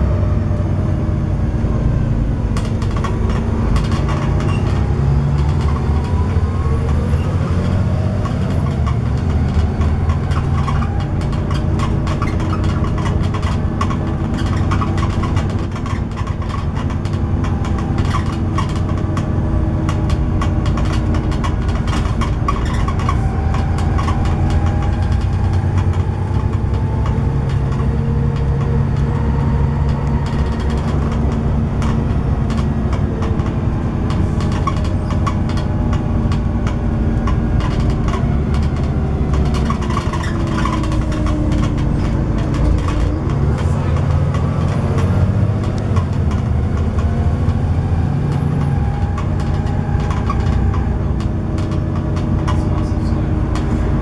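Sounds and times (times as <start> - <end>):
bus diesel engine droning: 0.0 - 54.0
road noise: 0.0 - 54.0
body and fittings rattling: 2.2 - 54.0.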